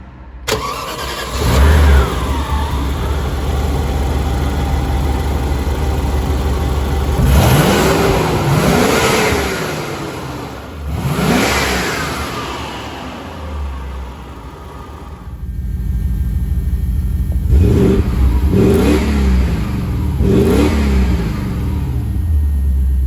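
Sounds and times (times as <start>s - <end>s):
car engine idling and revving: 0.4s - 23.0s.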